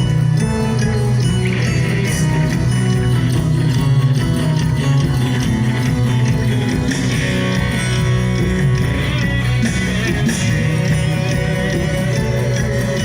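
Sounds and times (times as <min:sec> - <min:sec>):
live band music: 0:00.0 - 0:13.0
prominent bass line: 0:00.0 - 0:13.0.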